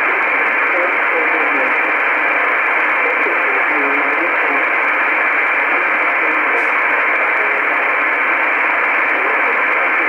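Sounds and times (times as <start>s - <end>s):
shortwave radio static: 0.0s - 10.0s.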